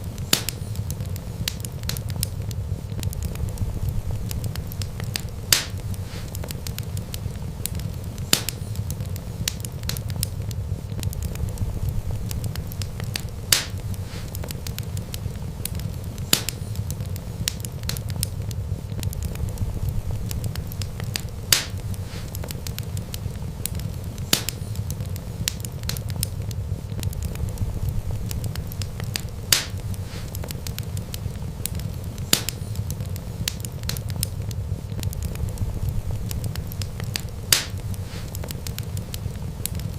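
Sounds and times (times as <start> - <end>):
low rumble of flames: 0.0 - 39.9
sharp fire pops: 0.0 - 39.9
wood fire crackling: 0.0 - 39.9.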